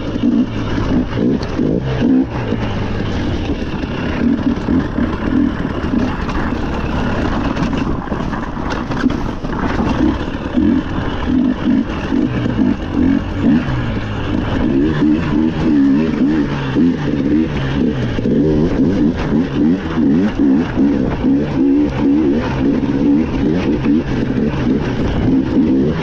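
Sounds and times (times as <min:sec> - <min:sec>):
rally car engine revving: 0:00.0 - 0:26.0
steady rushing noise: 0:00.0 - 0:26.0.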